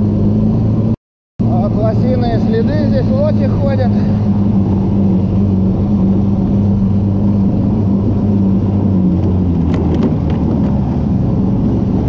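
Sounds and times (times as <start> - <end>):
snow vehicle engine running: 0.0 - 12.0.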